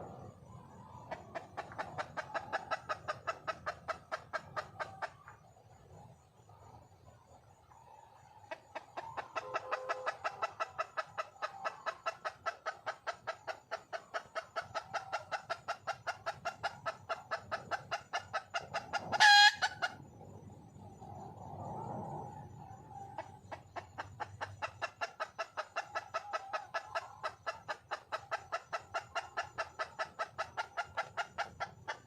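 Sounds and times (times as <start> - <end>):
hen clucking: 0.0 - 6.5, 7.2 - 20.3, 22.2 - 32.0.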